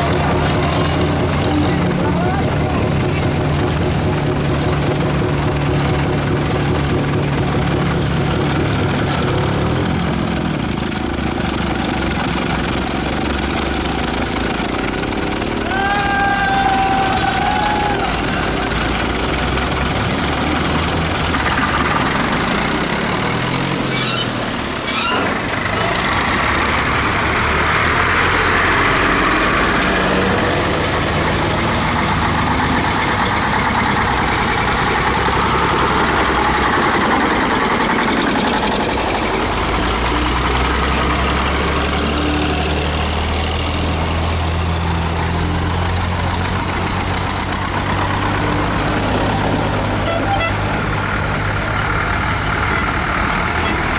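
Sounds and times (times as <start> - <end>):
tractor engines running: 0.0 - 53.9.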